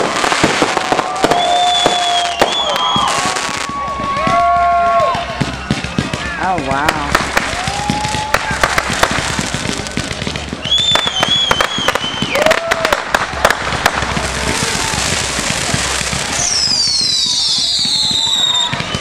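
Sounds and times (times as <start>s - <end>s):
whistling firework shells: 0.0s - 4.4s, 5.4s - 19.0s
fireworks banging and crackling: 0.0s - 19.0s.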